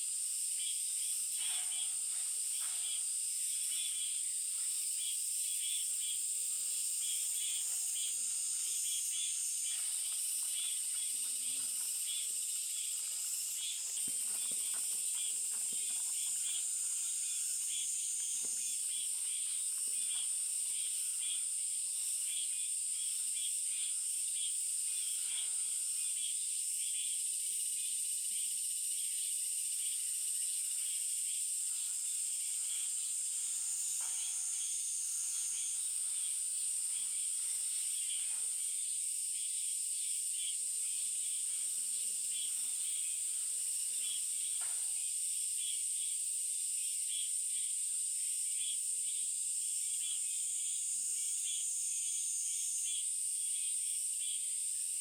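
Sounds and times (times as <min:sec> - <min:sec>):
insects chirping: 0:00.0 - 0:55.0
high-pitched insect drone: 0:00.1 - 0:55.0.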